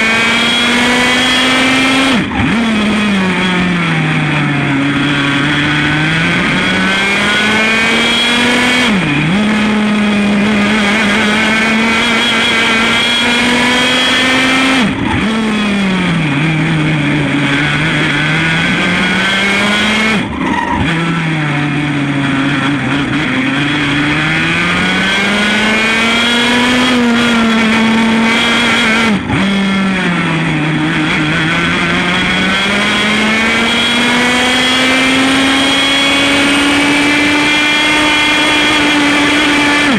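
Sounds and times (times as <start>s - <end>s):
kart engine racing: 0.0s - 39.9s.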